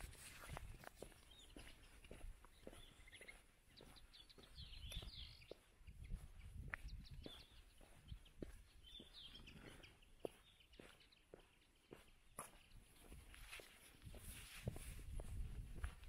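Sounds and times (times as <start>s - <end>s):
footsteps on stone path: 0.0s - 16.0s
bird chirps: 0.4s - 13.6s.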